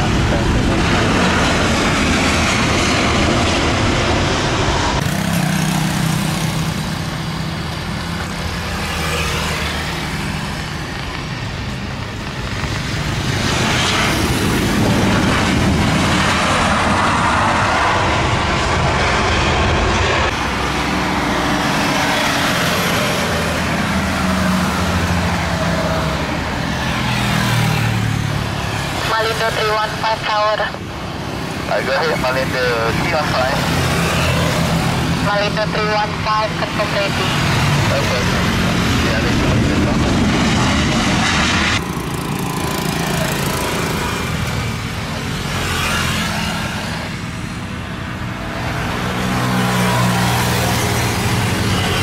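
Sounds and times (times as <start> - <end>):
jet airliner engines: 0.0 - 52.0.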